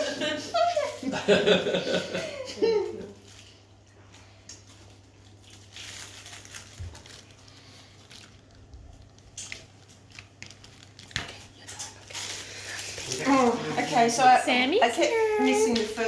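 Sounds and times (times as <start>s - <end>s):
hands crinkling pastry: 2.8s - 16.0s.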